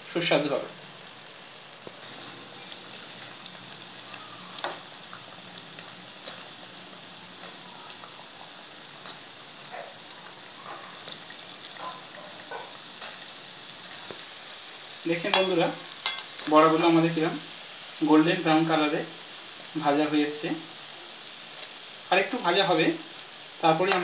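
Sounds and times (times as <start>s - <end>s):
fritters sizzling in oil: 0.0s - 24.0s.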